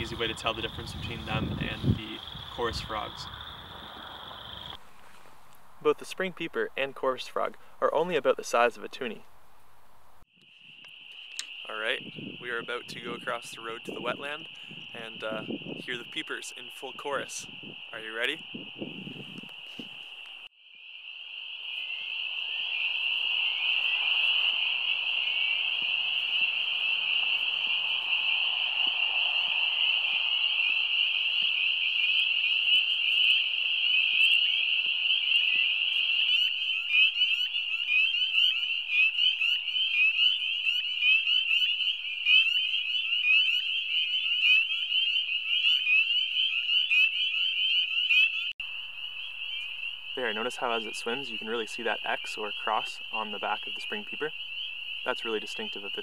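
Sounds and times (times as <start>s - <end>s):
spring peepers chorus: 0.0s - 4.8s, 10.3s - 56.0s.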